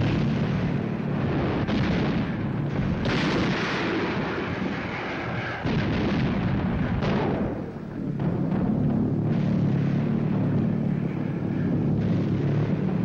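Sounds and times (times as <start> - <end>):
shell bursts: 0.0 - 11.1
anti-aircraft guns firing: 0.0 - 13.0.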